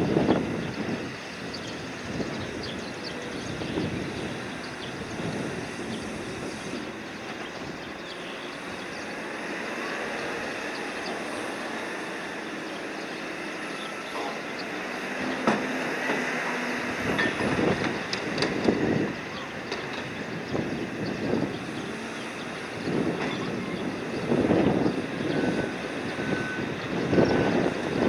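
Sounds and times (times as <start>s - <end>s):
cargo crane running: 0.0s - 28.0s.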